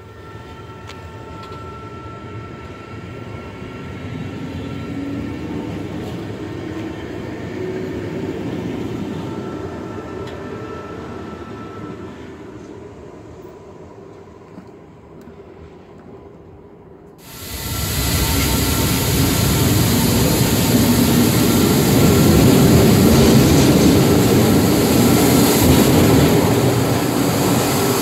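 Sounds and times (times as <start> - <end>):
faint high whine: 0.0 - 28.0
train wheel and rail rumble: 0.0 - 28.0.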